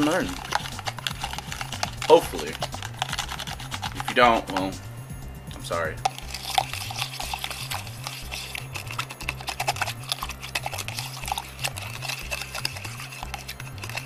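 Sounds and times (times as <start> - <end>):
stick tapping plastic cup: 0.0 - 4.8, 6.0 - 14.0
background music with bass line: 0.0 - 14.0.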